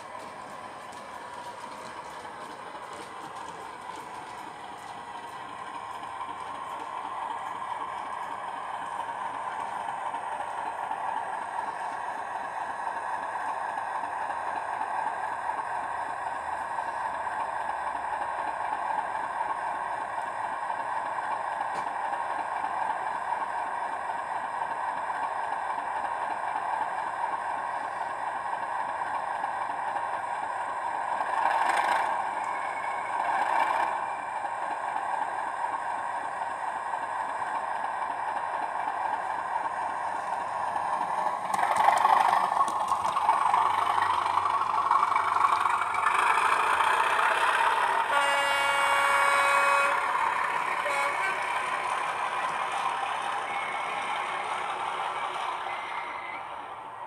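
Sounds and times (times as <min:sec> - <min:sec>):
model diesel engine drone: 0:00.0 - 0:57.0.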